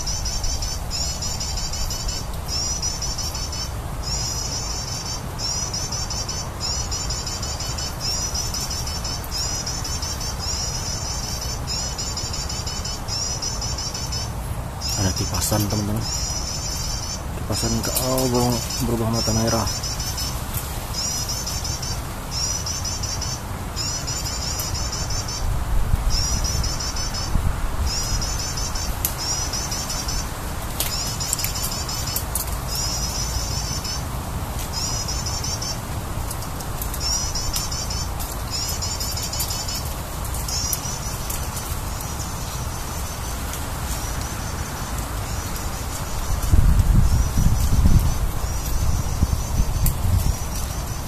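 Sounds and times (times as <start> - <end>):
prinia bird trilled calls: 0.0 - 51.0.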